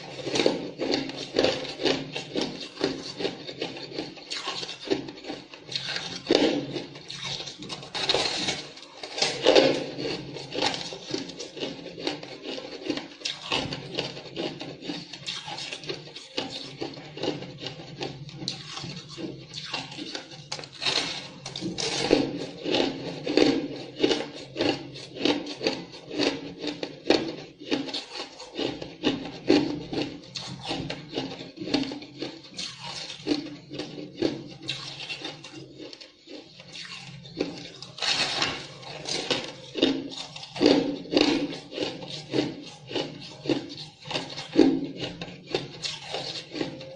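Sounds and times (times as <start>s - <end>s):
ice cubes crunched by teeth: 0.0s - 46.9s.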